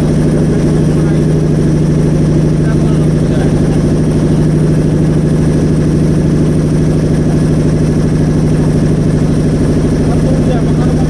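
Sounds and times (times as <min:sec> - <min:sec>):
motorboat engine drone: 0:00.0 - 0:11.0.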